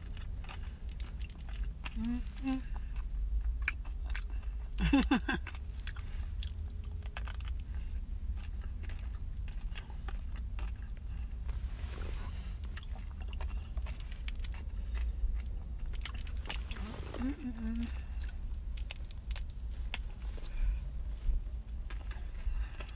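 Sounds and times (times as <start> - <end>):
biting and chewing crunchy food: 0.0 - 22.9
steady low rumble: 0.0 - 22.9.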